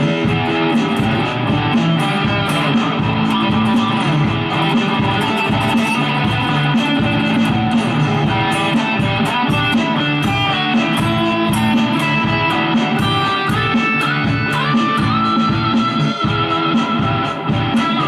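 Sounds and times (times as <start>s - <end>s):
electric guitar picked notes: 0.0s - 18.0s.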